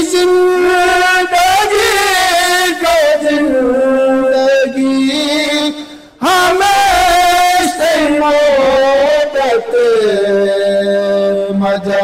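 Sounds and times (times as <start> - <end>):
two men singing together: 0.0 - 12.0.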